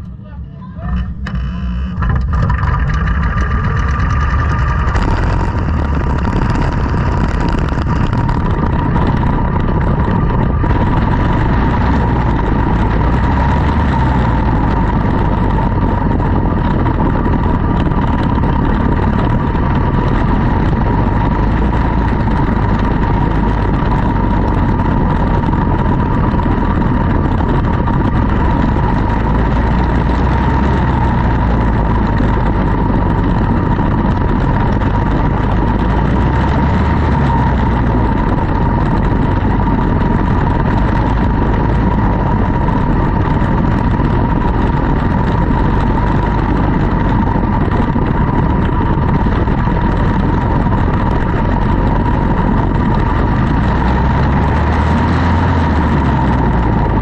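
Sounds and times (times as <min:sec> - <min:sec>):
small race car engine droning: 0:00.0 - 0:57.0.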